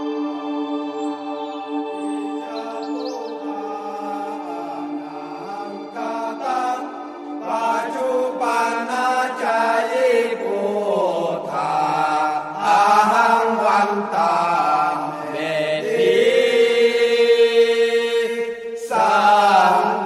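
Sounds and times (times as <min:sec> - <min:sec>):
chanted singing: 0:00.0 - 0:20.0.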